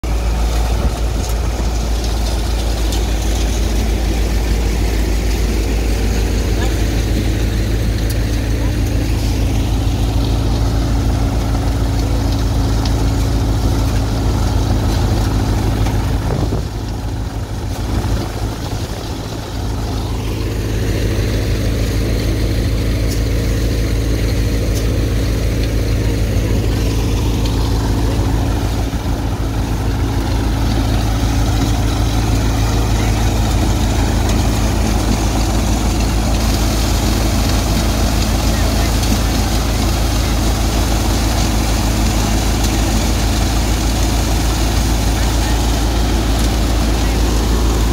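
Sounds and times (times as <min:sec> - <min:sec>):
threshing machine running: 0:00.0 - 0:47.9.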